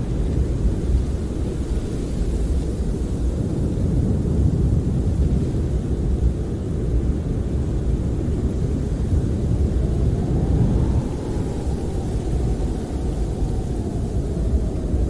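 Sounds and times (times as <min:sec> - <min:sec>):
faint high wind moan: 0:00.0 - 0:15.0
wind rumbling against a camper: 0:00.0 - 0:15.0.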